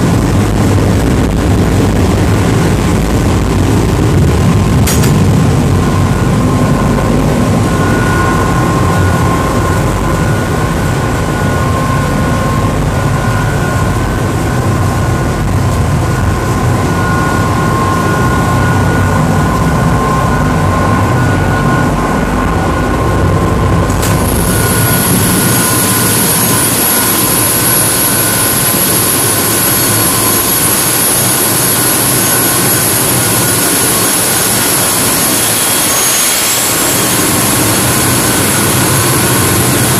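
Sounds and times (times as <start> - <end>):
boat diesel engines running: 0.0 - 39.9
high whines: 0.0 - 39.9
hissing engine-room roar: 0.0 - 39.9.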